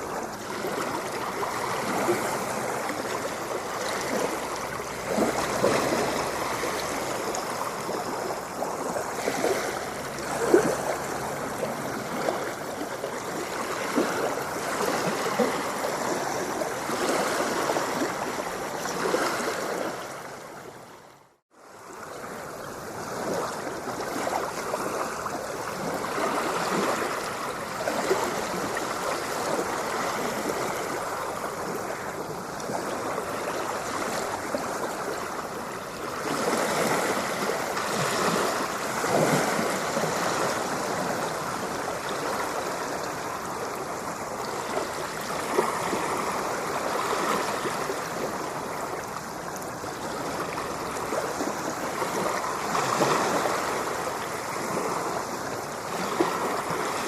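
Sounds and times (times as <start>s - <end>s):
waves splashing on shore: 0.0s - 57.0s.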